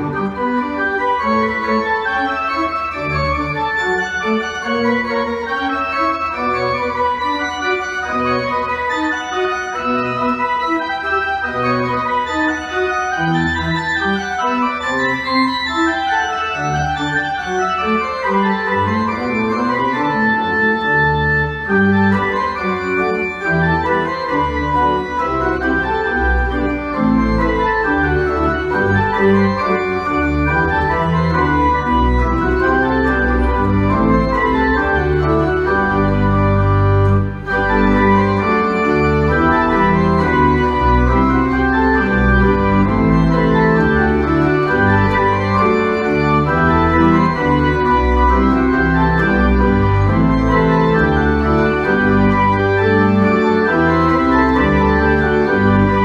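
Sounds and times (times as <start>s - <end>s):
church organ playing chords: 0.0s - 56.0s.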